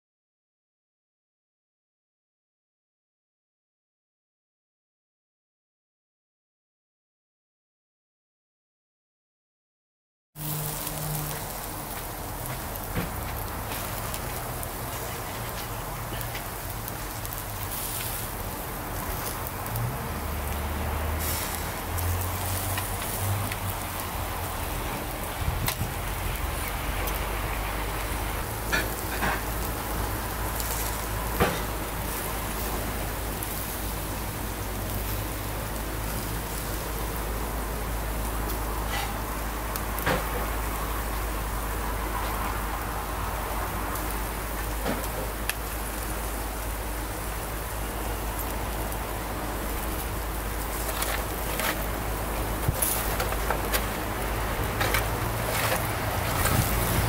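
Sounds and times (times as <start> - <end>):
meat sizzling on a grill: 10.4 - 57.0.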